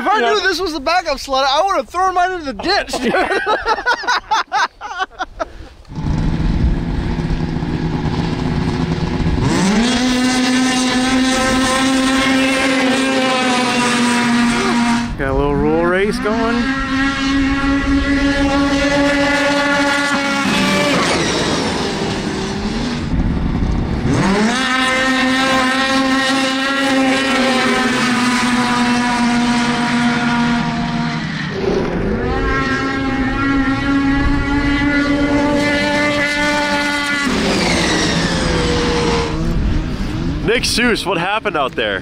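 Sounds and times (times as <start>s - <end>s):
snowmobiles racing: 0.0s - 42.0s.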